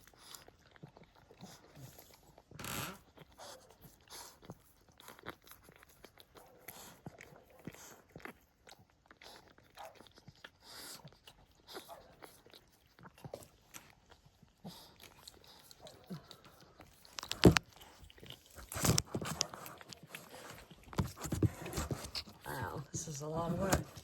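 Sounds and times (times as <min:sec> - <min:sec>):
dog wet chewing and licking: 0:00.0 - 0:24.0.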